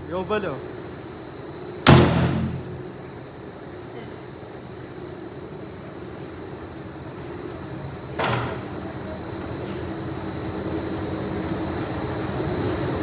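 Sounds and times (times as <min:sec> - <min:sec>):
factory machinery whining and humming: 0:00.0 - 0:03.8, 0:04.6 - 0:13.0.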